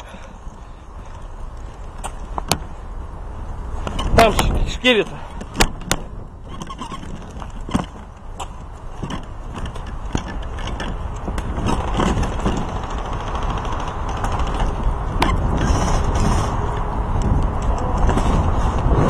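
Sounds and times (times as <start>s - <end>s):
steady low rumble: 0.0s - 6.5s, 7.1s - 19.0s
camera gear rattling and rubbing: 3.7s - 19.0s.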